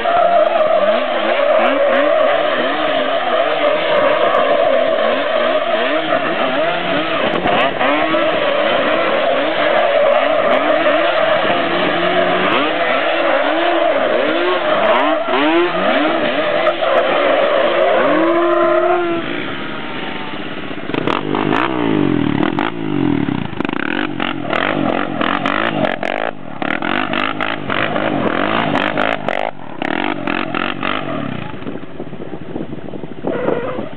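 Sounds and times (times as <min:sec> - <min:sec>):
quad engines revving: 0:00.0 - 0:31.8.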